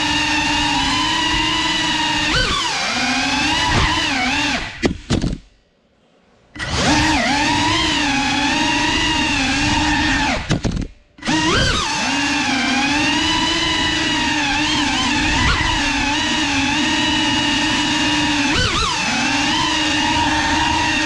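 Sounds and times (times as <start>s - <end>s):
drone motors whining: 0.0s - 5.0s, 6.6s - 21.0s.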